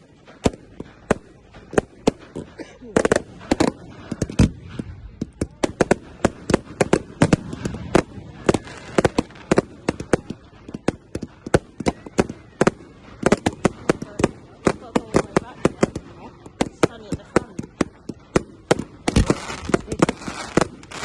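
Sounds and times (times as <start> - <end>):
fireworks bangs and cracks: 0.0 - 21.0
fireworks booms: 0.0 - 21.0.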